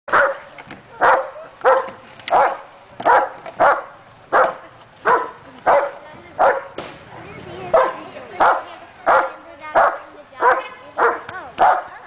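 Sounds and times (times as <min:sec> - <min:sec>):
dog barking: 0:00.1 - 0:06.8, 0:07.7 - 0:12.0.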